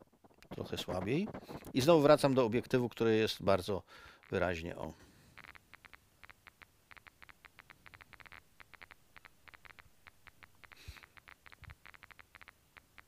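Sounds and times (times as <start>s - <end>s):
geiger counter clicking: 0.0s - 2.8s, 5.3s - 13.0s.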